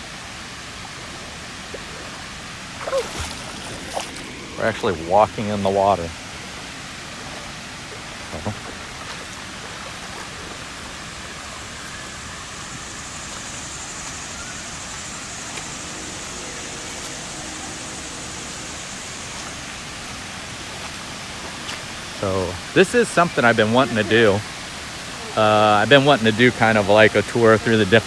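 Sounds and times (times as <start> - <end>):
creek and waterfall rushing: 0.0 - 28.0.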